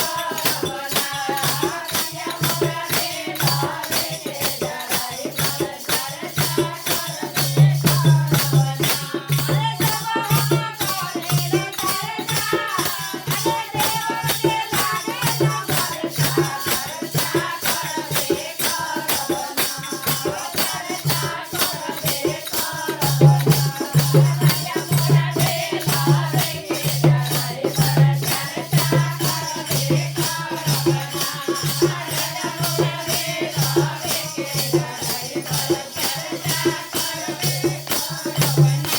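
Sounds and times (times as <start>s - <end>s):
fast rattle percussion: 0.0s - 38.9s.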